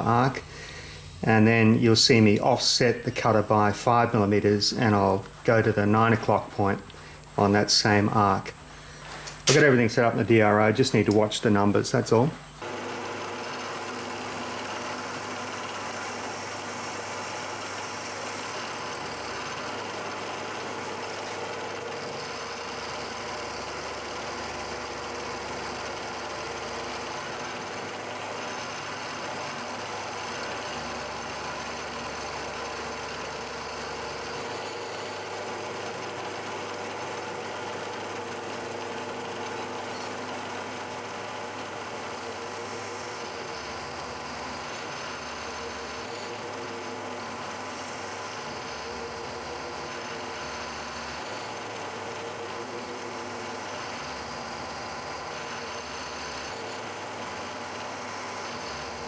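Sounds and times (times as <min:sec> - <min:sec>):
milling machine cutting metal: 0:09.3 - 0:59.0.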